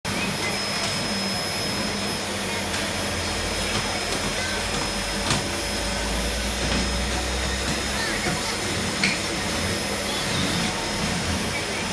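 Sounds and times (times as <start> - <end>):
vacuum cleaner running: 0.1 - 11.9.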